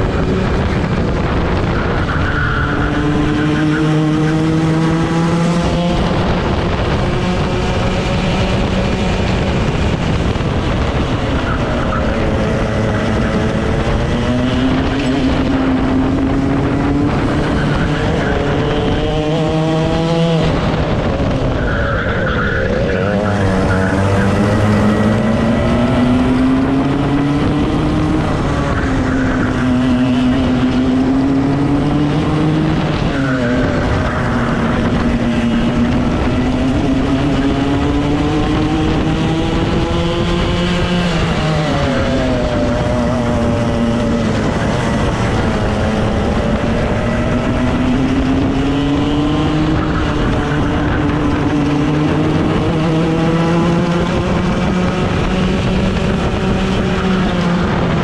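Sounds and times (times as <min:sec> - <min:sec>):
kart engine accelerating: 0:00.0 - 0:58.0.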